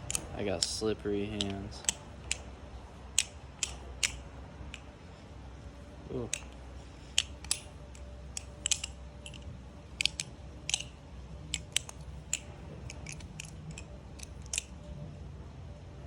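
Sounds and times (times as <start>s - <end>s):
butterfly knife metallic clicks: 0.0s - 2.5s, 3.1s - 4.9s, 6.3s - 14.9s.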